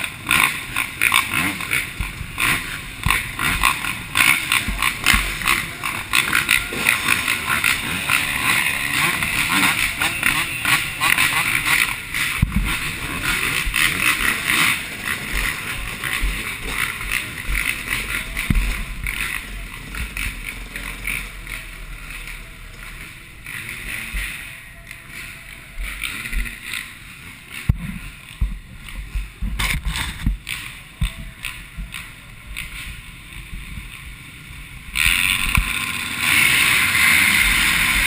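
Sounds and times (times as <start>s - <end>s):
motocross bikes racing: 0.0s - 38.0s.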